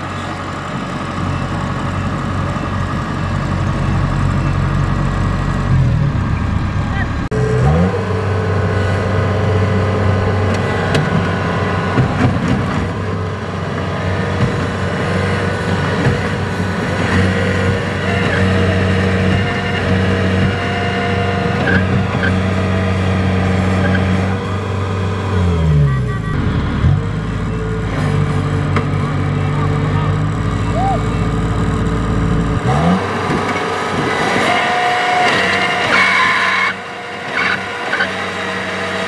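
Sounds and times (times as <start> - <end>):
diesel engine under load: 0.0 - 39.0.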